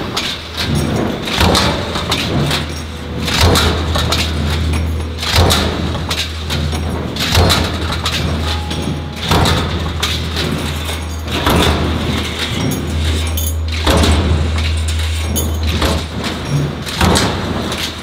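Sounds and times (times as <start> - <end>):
stamping press strikes: 0.6 - 18.0.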